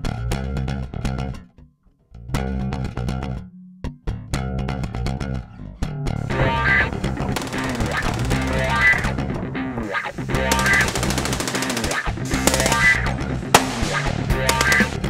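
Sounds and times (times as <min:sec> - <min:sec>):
rock music with bass and guitar: 0:00.0 - 0:15.0.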